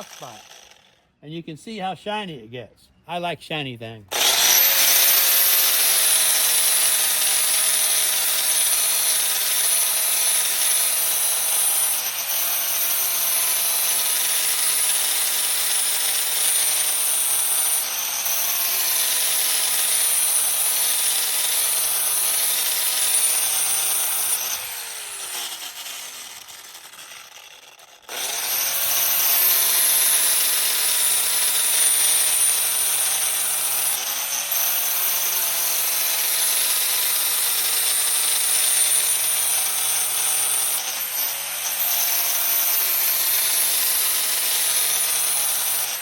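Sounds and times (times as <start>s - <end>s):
grinder grinding steel: 0.0s - 1.1s, 4.1s - 46.0s
grinder spinning down: 0.0s - 1.1s, 4.1s - 46.0s.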